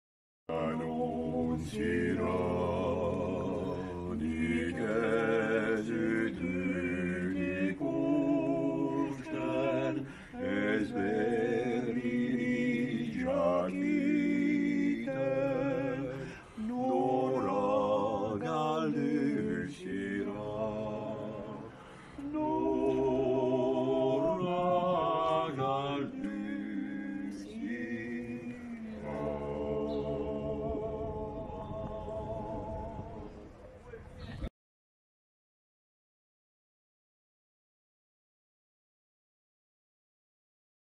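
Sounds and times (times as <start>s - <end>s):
men singing unaccompanied: 0.5s - 33.5s.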